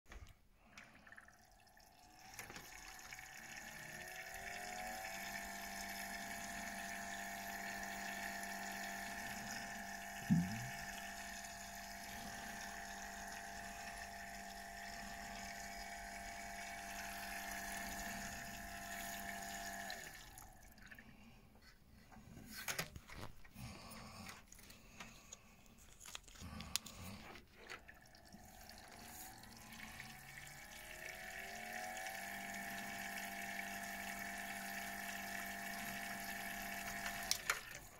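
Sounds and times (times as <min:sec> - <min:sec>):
water rushing through pipes: 0:00.1 - 0:21.2, 0:27.2 - 0:37.9
pump whine: 0:00.1 - 0:25.5, 0:26.1 - 0:37.9.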